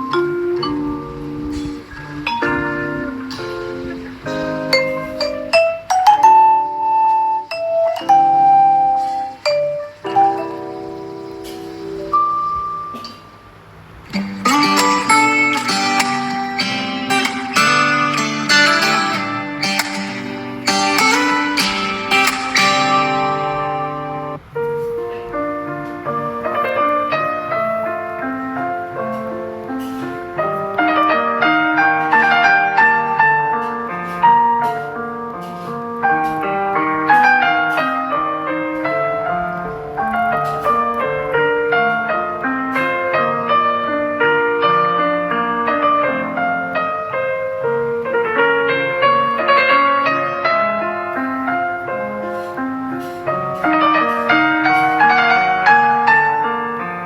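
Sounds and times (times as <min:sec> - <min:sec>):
piano-like ringtone melody: 0:00.0 - 0:24.4, 0:30.3 - 0:35.3, 0:36.0 - 0:57.0.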